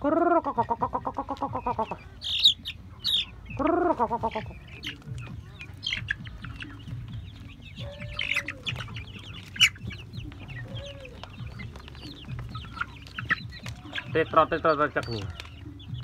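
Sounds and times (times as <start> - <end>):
chicks peeping and clucking: 0.0 - 16.0.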